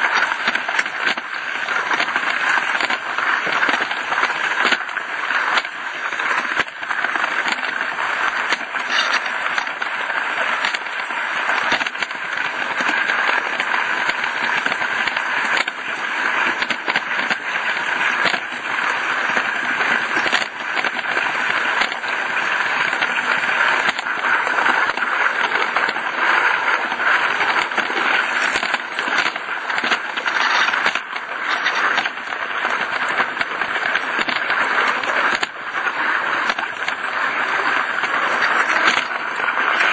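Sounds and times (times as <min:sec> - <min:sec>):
wheels rattling on track: 0:00.0 - 0:39.9.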